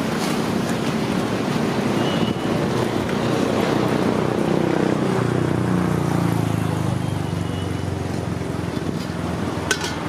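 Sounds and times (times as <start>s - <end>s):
road traffic noise: 0.0s - 10.0s
vehicle engine: 0.0s - 10.0s.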